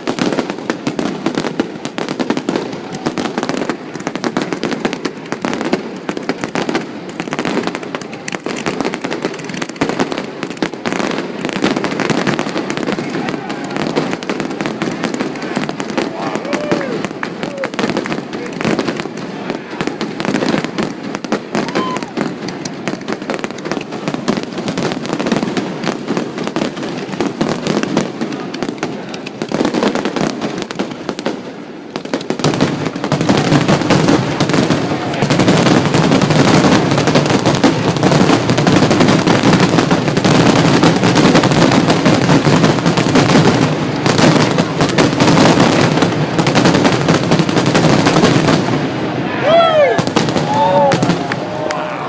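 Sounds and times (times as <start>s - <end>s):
fireworks banging and crackling: 0.0s - 52.0s.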